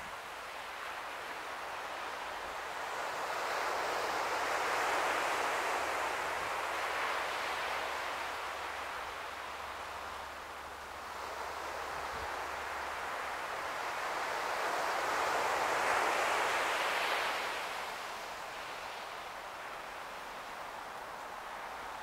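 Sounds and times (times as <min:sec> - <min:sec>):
ocean surf washing ashore: 0:00.3 - 0:22.0.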